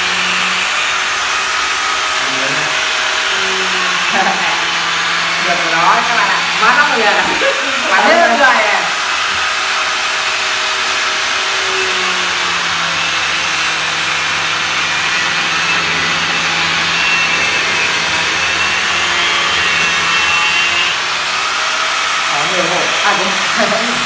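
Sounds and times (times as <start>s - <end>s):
angle grinder cutting: 0.0s - 24.0s.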